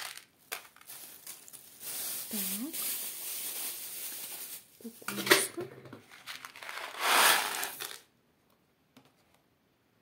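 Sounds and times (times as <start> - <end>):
plastic bags crinkling: 0.0 - 8.1.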